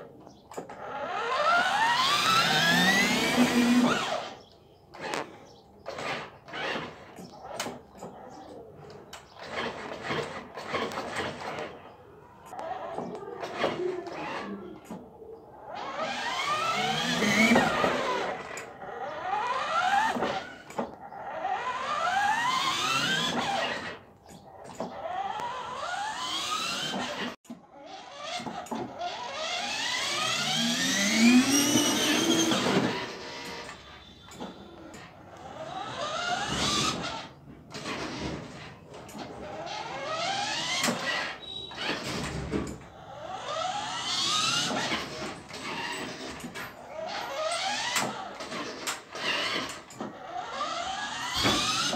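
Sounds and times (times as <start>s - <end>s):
toy car motors whining: 0.5s - 51.9s.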